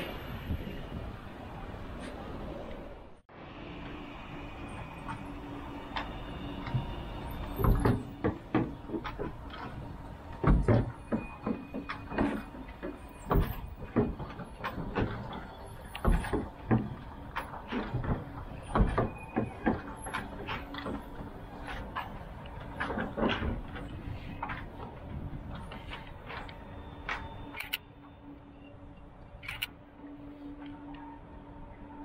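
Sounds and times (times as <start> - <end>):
tram clunks and knocks: 0.0 - 28.5.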